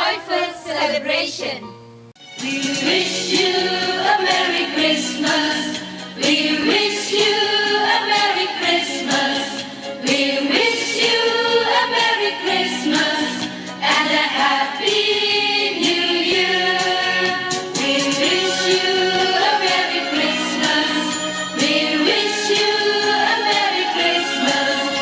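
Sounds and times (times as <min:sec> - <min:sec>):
choir singing a christmas song: 0:00.0 - 0:01.6, 0:02.3 - 0:25.0
musical accompaniment: 0:00.0 - 0:25.0.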